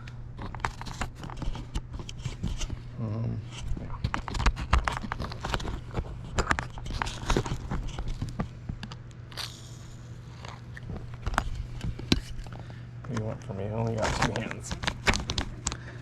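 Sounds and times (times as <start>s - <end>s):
handling clicks knocks and scrapes: 0.0s - 16.0s
steady low hum: 0.0s - 16.0s.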